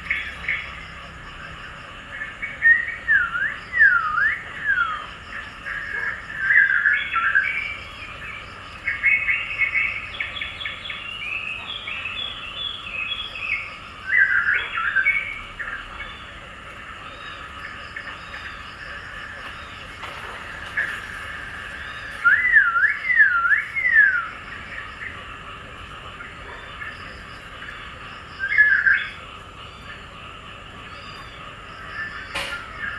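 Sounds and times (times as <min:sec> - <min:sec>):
birds chirping and singing: 0:00.0 - 0:32.9.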